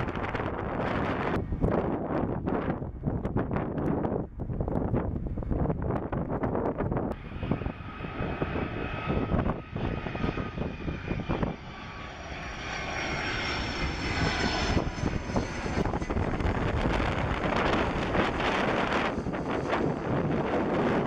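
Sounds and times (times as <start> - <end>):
jet engines whining overhead: 0.0 - 21.0
wind buffeting microphone: 0.0 - 21.0.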